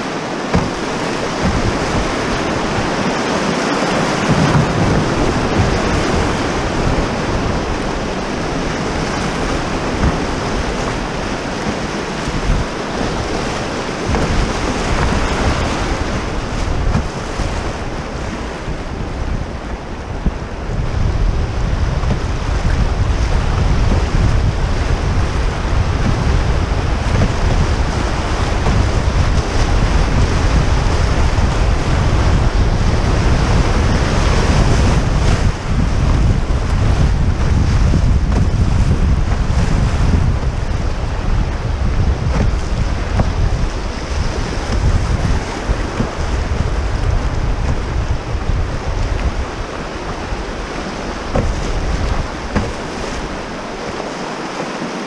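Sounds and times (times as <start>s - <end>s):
river rapids rushing: 0.0s - 55.0s
wind buffeting microphone: 0.0s - 55.0s.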